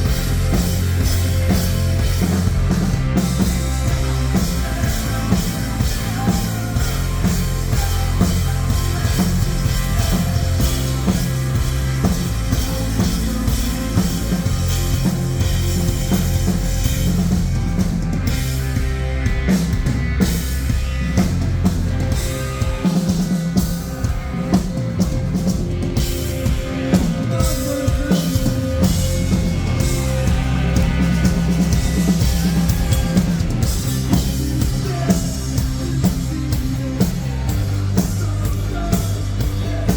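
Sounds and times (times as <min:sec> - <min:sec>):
drum kit pounding: 0:00.0 - 0:39.9
rock band playing live: 0:00.0 - 0:39.9.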